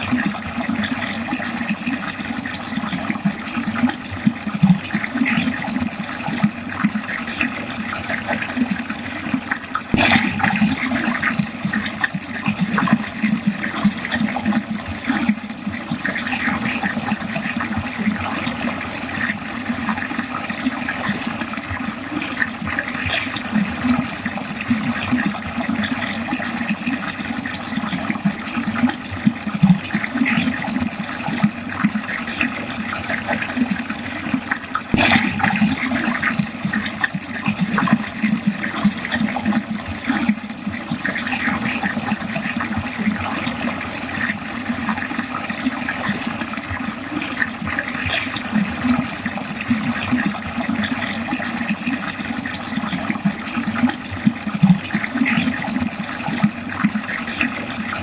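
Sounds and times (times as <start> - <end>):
water running down a drain: 0.0 - 58.0.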